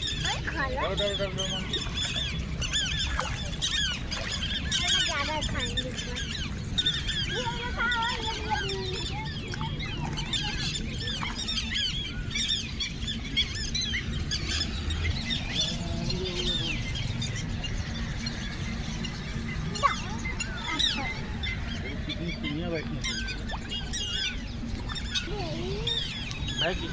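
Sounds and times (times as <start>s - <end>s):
flock of birds calling: 0.0s - 26.9s.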